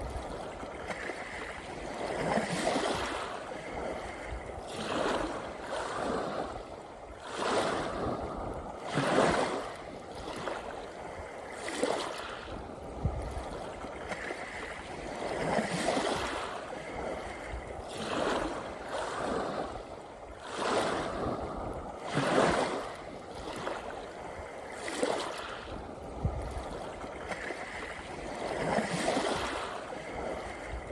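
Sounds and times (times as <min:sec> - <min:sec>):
sea waves breaking on shore: 0:00.0 - 0:30.9.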